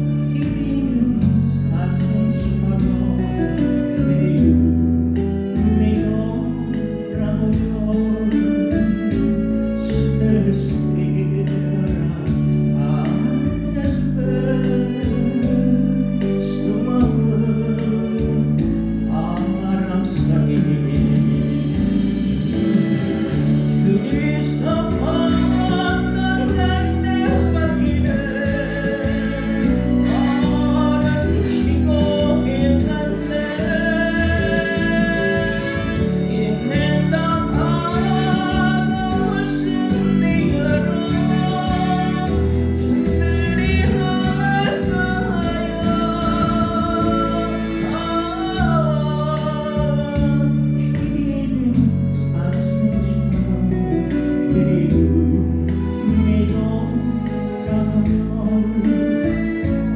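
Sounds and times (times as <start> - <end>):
guitar accompaniment: 0.0 - 59.9
person singing a slow ballad: 0.0 - 59.9.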